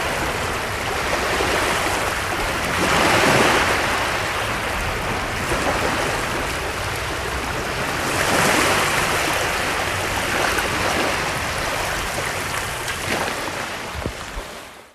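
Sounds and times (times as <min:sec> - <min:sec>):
small waves washing onto shore: 0:00.0 - 0:14.9.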